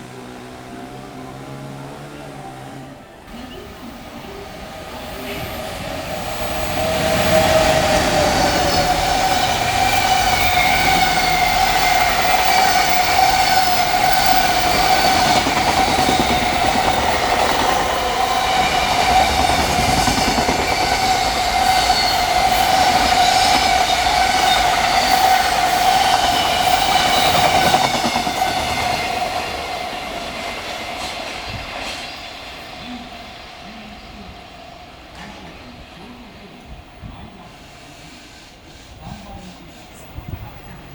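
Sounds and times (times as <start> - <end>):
freight train wheels rumbling: 0.0 - 40.9
steady train whine: 0.0 - 40.9.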